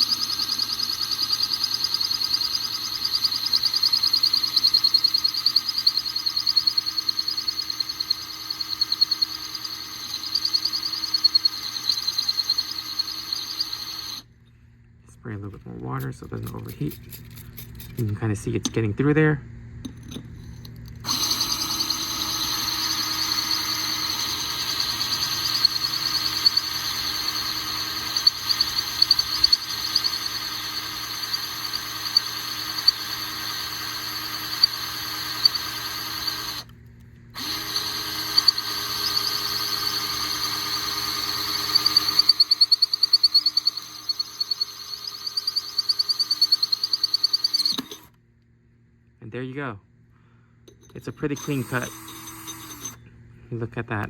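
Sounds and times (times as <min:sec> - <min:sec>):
electric drill grinding ceramic: 0:00.0 - 0:14.3, 0:19.9 - 0:48.2, 0:50.8 - 0:53.1.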